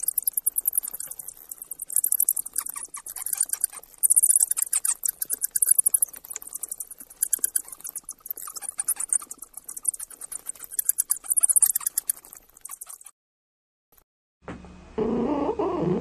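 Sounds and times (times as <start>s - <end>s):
bat chattering clicks: 0.0s - 13.1s.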